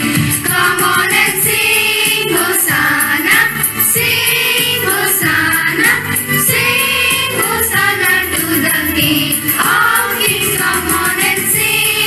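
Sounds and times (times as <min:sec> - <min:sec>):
children singing in unison: 0:00.2 - 0:12.0.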